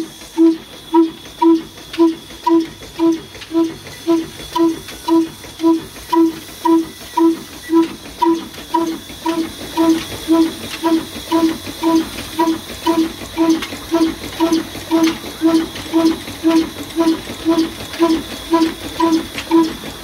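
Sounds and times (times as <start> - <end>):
stationary diesel engine running: 0.0 - 20.0.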